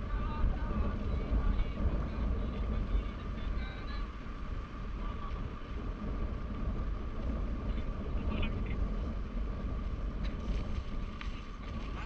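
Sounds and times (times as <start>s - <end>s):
motorcycle engine whine: 0.0s - 12.0s
wind rumble on microphone: 0.0s - 12.0s.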